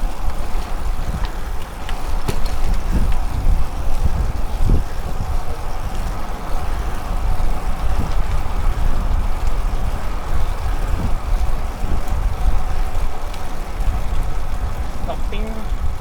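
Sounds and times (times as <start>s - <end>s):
road and wind rumble: 0.0s - 16.0s.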